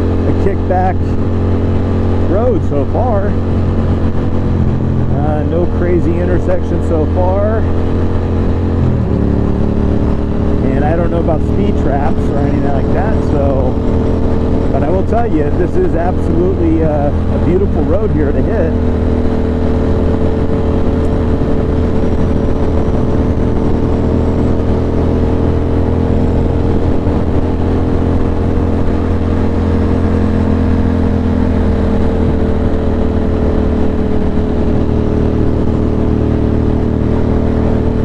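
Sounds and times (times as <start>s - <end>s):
motorcycle engine cruising: 0.0s - 38.0s.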